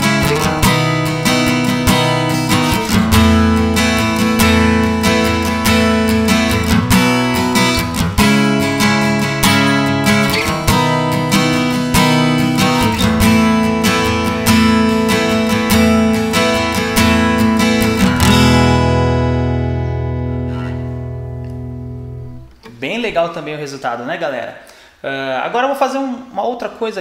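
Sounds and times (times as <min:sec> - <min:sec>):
acoustic guitar playing: 0:00.0 - 0:23.3.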